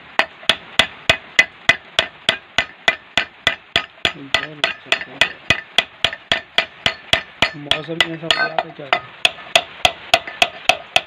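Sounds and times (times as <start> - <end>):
hammer striking metal mug: 0.2 - 11.0.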